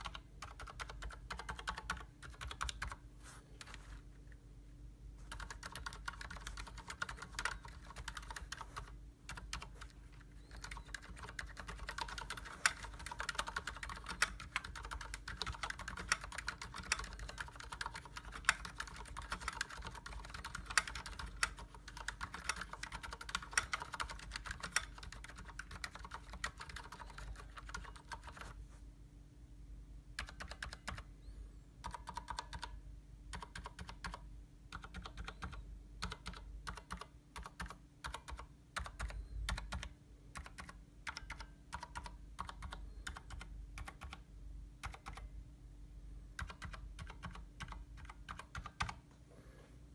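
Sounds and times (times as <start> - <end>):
fast keyboard typing: 0.0 - 3.0, 5.2 - 28.6, 30.2 - 31.1, 31.8 - 45.3, 46.3 - 49.0.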